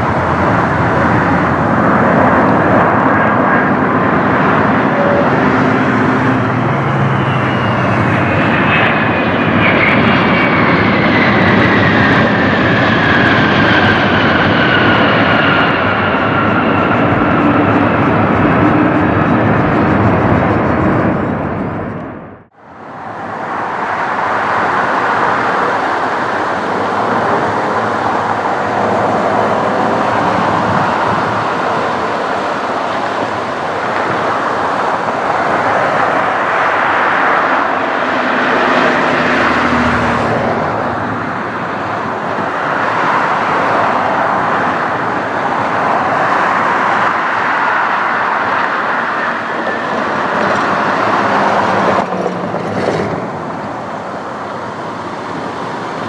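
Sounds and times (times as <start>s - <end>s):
faint engine whine: 0.0s - 56.0s
jet engine roar: 0.0s - 56.0s.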